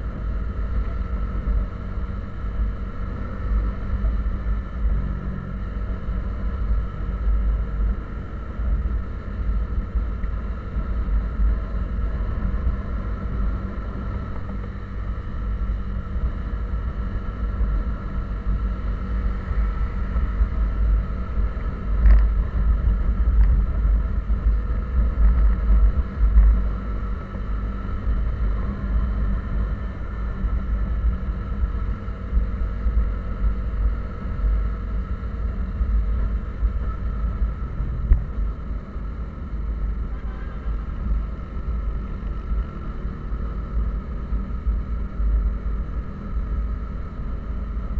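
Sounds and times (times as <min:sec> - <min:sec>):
road and wind rumble: 0:00.0 - 0:47.9
vehicle engine droning: 0:00.0 - 0:47.9.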